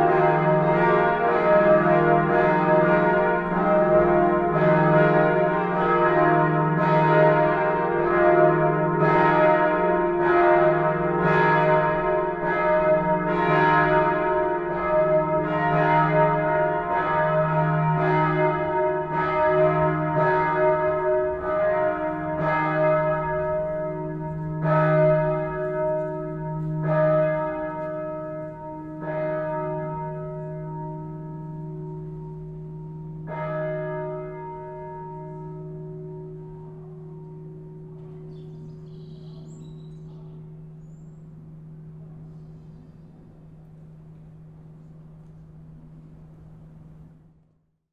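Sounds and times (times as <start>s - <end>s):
church bells pealing: 0.0s - 47.3s.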